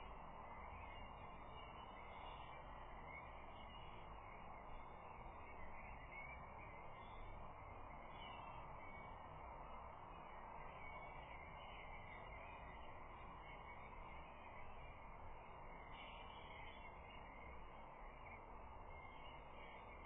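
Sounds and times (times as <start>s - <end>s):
outdoor hiss and low rumble: 0.0s - 20.0s
distant bird calls: 0.7s - 20.0s.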